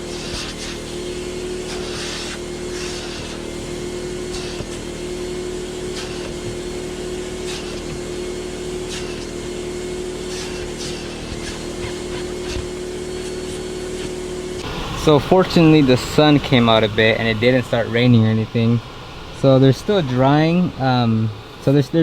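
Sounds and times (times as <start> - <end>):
blower fan humming: 0.0 - 22.0.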